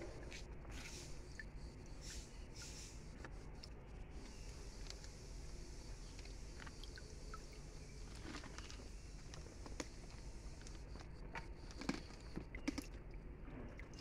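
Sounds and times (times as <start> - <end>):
small splashes and drips: 0.2 - 14.0.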